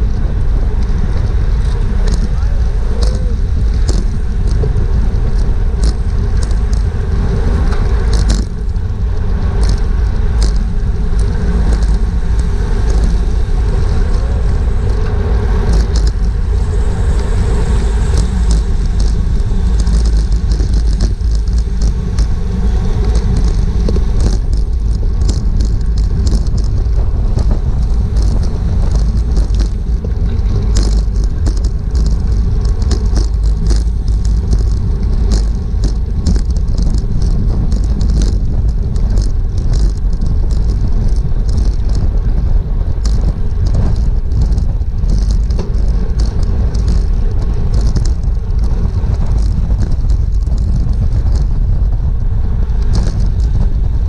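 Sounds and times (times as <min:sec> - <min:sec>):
bicycle clicks and rattles: 0:00.0 - 0:54.0
road rumble: 0:00.0 - 0:54.0
wind rushing: 0:00.0 - 0:54.0.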